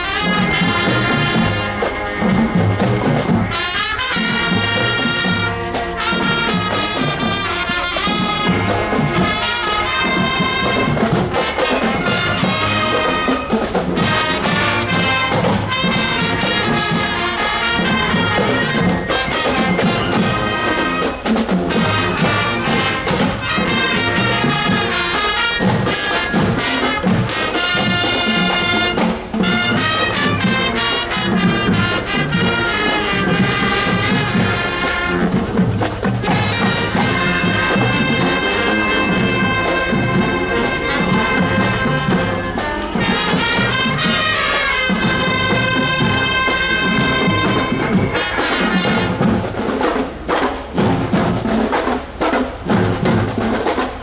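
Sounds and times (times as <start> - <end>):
marching band playing: 0.0 - 54.0
trumpets and trombones: 0.0 - 54.0.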